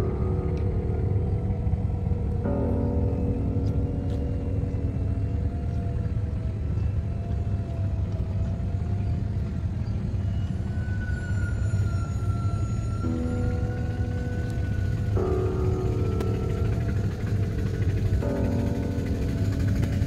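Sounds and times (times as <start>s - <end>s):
soft background music: 0.0s - 20.0s.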